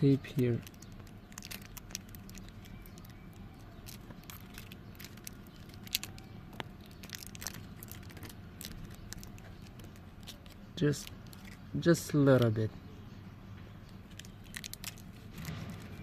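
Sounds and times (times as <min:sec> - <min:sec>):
tape crinkling and tearing: 0:00.2 - 0:11.7, 0:14.0 - 0:16.0.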